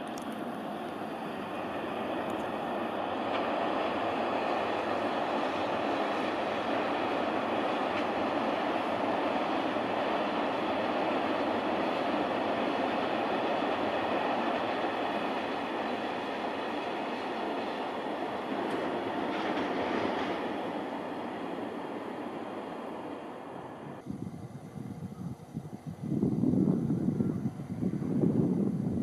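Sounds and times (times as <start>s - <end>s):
train wheels rumbling and clattering: 0.0s - 24.0s.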